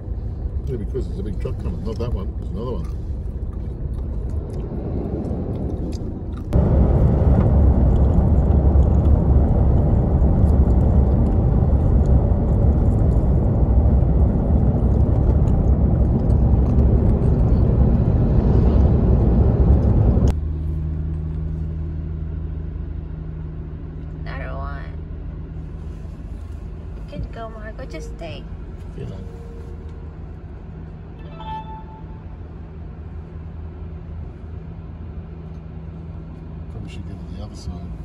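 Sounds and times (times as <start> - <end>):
engine drone: 0.0 - 38.0
road and wind rumble: 0.0 - 38.0.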